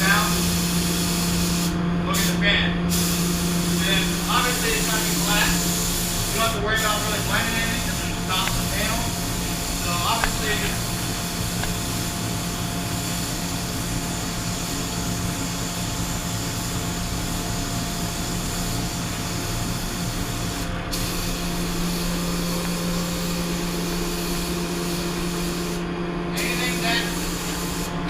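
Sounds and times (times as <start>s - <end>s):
spray gun hissing: 0.0s - 28.0s
steady hum: 0.0s - 28.0s.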